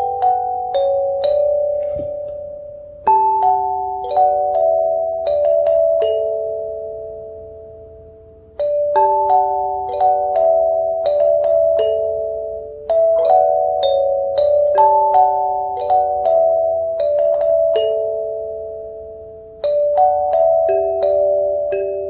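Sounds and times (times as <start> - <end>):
gentle bell-like melody: 0.0 - 22.0.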